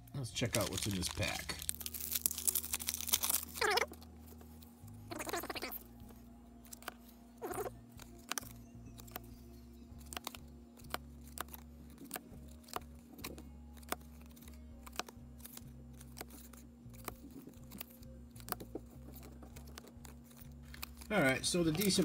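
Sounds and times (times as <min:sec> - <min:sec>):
faint background music: 0:00.0 - 0:22.0
cardboard cards clicking and snapping: 0:00.4 - 0:22.0.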